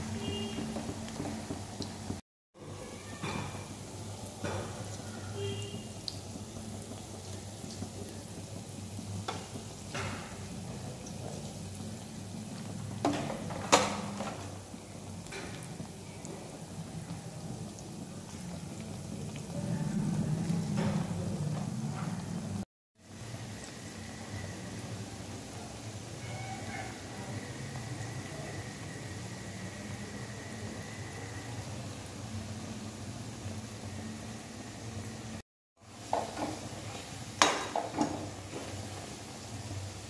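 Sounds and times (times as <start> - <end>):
oil sizzling and bubbling: 0.0 - 40.0.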